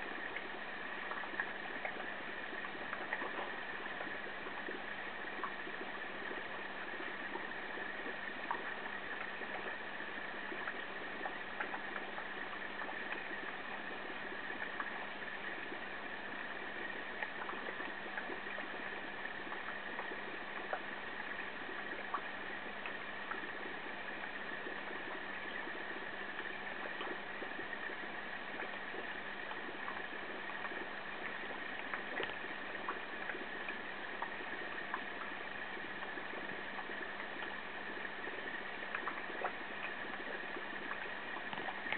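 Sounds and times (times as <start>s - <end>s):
aquarium equipment humming: 0.0s - 41.9s
water trickling: 0.0s - 41.9s.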